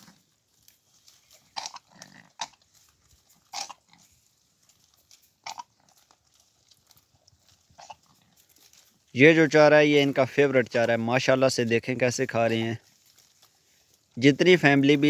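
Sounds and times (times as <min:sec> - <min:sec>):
goats crunching fodder: 0:00.0 - 0:15.0.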